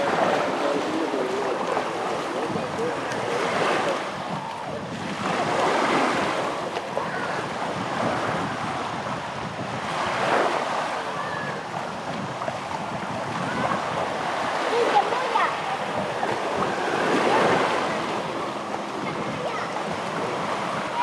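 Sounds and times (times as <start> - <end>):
sea waves on beach: 0.0 - 21.0.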